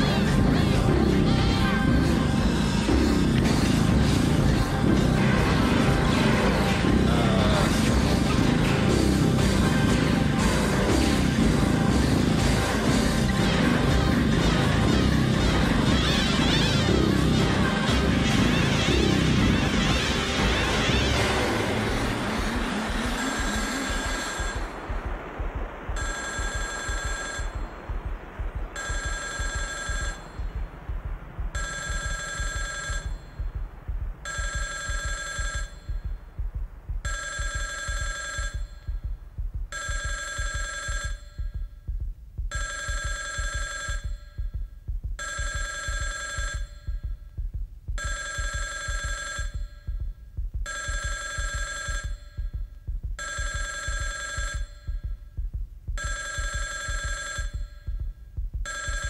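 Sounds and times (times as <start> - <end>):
low throbbing pulse: 0.0 - 59.0.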